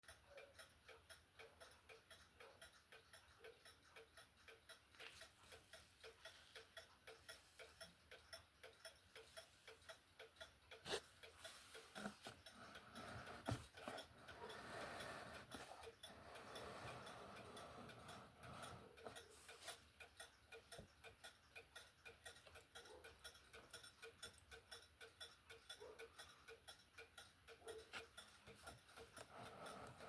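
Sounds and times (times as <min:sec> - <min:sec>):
wall clock ticking: 0:00.0 - 0:30.0.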